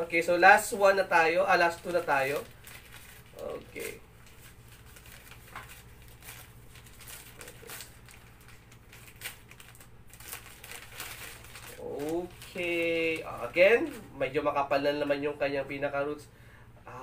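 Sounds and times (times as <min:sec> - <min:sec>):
paper wrapping crinkling: 0:00.5 - 0:14.5.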